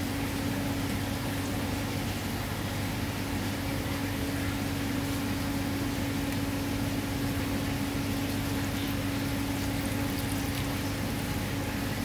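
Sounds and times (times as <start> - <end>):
fish tank equipment hum: 0.0 - 12.0.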